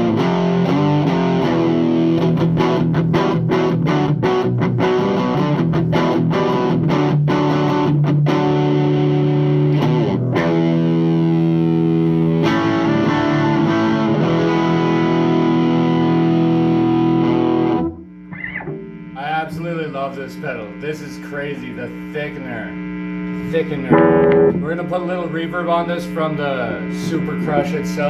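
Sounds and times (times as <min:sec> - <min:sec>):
distorted electric guitar chords: 0:00.0 - 0:28.0.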